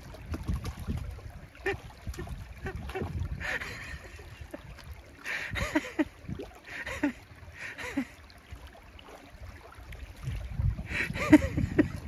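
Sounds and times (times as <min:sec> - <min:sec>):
rocky stream gurgling: 0:00.0 - 0:12.0
splashy gurgles: 0:00.0 - 0:12.0.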